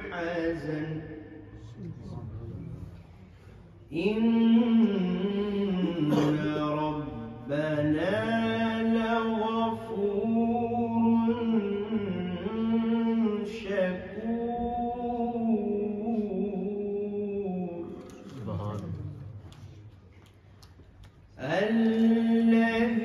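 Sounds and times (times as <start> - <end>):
man chanting melodically: 0.0 - 3.1, 3.9 - 19.5.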